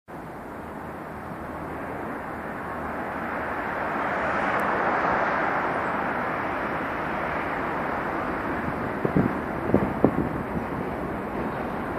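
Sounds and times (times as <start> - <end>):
subway train rumbling on elevated track: 0.1 - 11.9.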